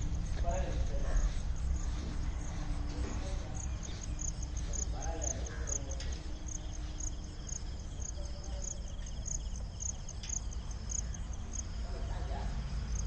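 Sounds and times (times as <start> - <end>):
insects chirping: 0.0 - 13.0
steady low rumble: 0.0 - 13.0.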